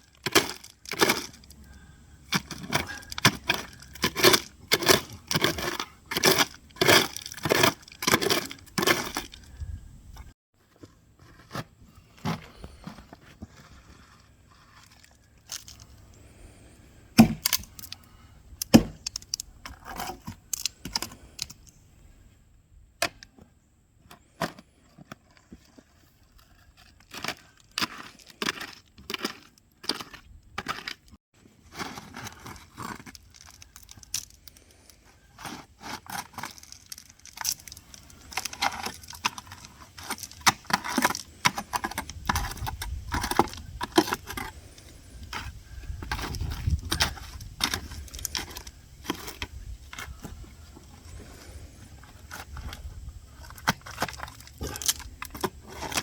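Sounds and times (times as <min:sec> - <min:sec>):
shovel scraping gravel: 0:00.0 - 0:09.5, 0:11.0 - 0:17.9, 0:24.2 - 0:56.0.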